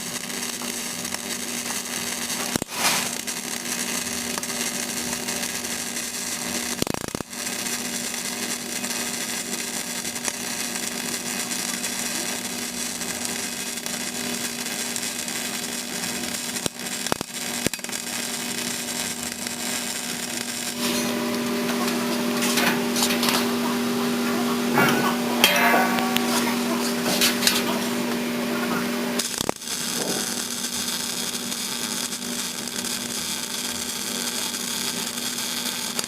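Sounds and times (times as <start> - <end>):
welding arc crackling: 0.0 - 36.0.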